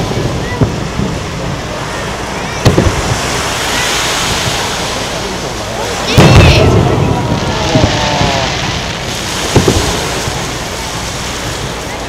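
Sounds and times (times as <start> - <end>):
firework bang: 0.0 - 11.7.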